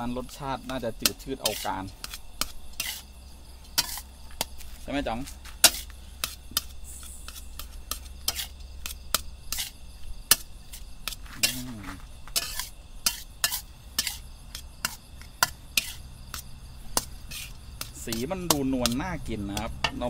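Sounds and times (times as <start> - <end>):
utensil scraping an iron pan: 0.0 - 4.8, 5.4 - 20.0.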